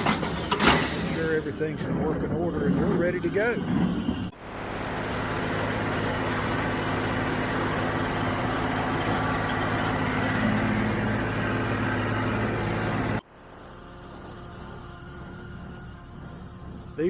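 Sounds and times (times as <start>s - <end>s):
tractor running with baler: 0.0s - 14.7s.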